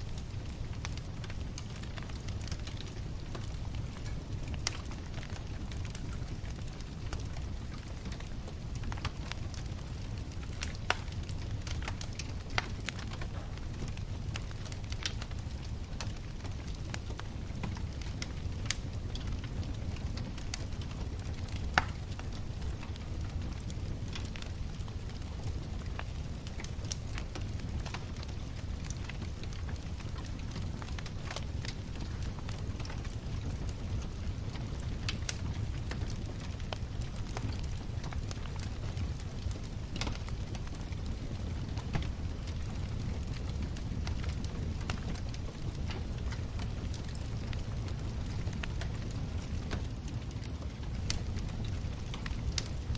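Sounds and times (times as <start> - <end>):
low rumble of flames: 0.0 - 52.9
wood crackling and popping: 0.0 - 52.9.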